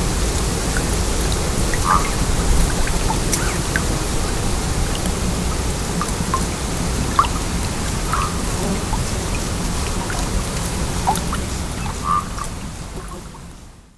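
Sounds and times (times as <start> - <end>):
stream water flowing over stones: 0.0 - 13.9.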